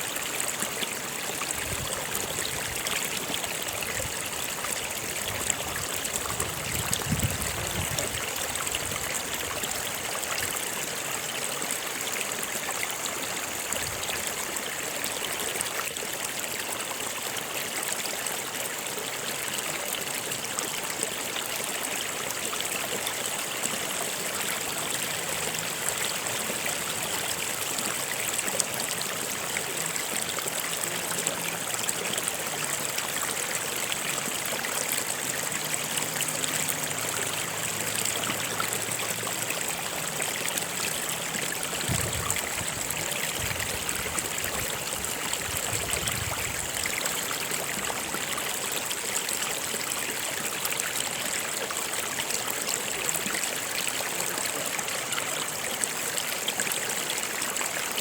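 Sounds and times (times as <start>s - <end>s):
small water splashes: 0.0s - 58.0s
stream running over rocks: 0.0s - 58.0s.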